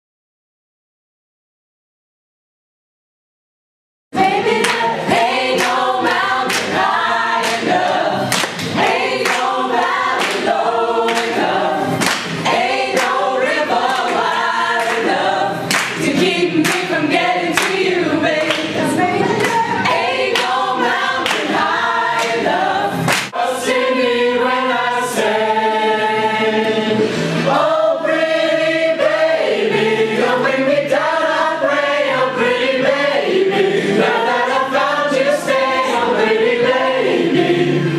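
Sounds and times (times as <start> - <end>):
young choir singing a cappella: 4.2 - 37.9.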